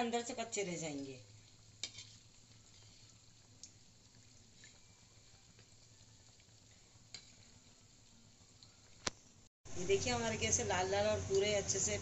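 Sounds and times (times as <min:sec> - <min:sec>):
donuts sizzling in hot oil: 0:00.0 - 0:12.0.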